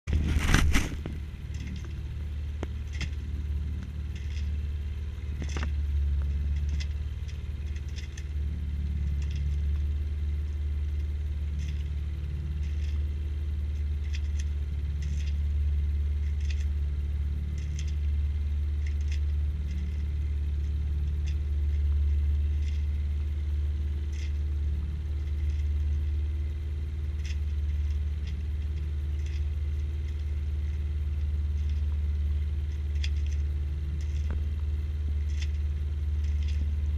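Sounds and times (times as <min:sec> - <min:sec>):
boat motor rumbling: 0:00.0 - 0:36.9.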